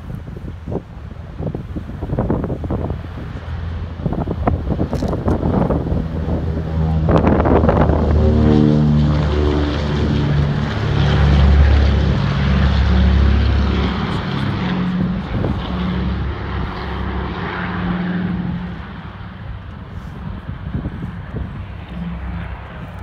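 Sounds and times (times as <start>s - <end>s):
propeller aircraft engines drone: 0.0s - 23.0s.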